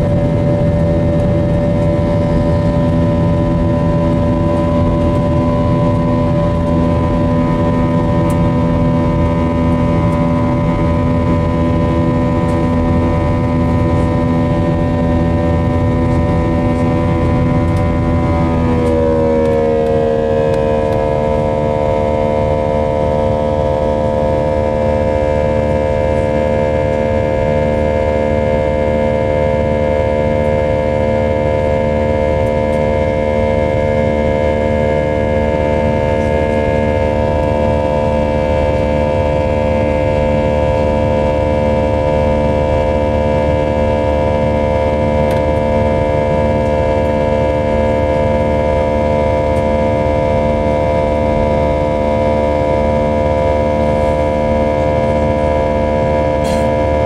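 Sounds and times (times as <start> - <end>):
jet engine roar in cabin: 0.0 - 57.0.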